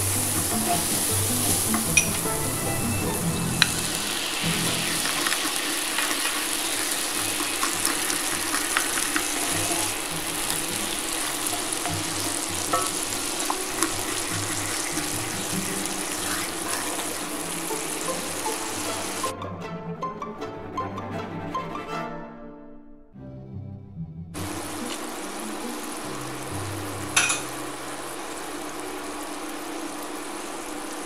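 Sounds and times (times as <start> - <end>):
sauce sizzling and bubbling: 0.0 - 19.3, 24.4 - 31.0.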